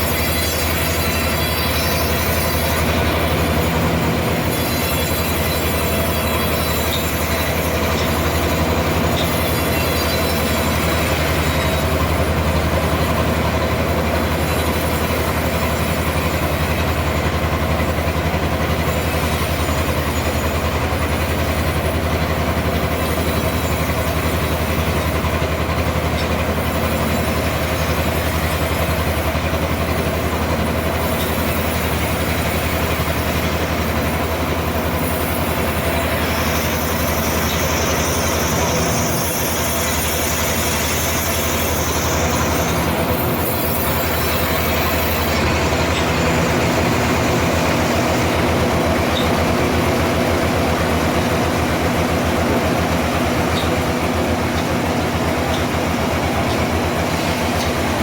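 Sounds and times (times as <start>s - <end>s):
constant machine whine: 0.0s - 58.0s
sawmill machinery hum: 0.0s - 58.0s.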